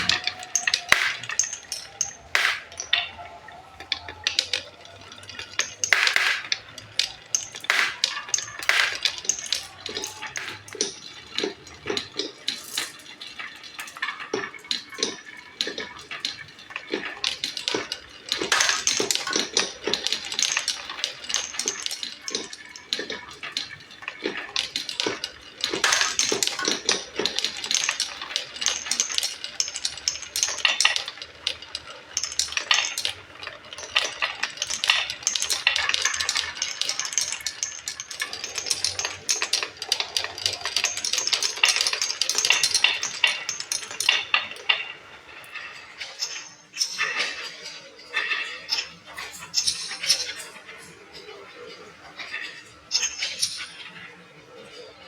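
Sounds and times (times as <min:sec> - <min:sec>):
marbles clattering down wooden run: 0:00.0 - 0:55.0.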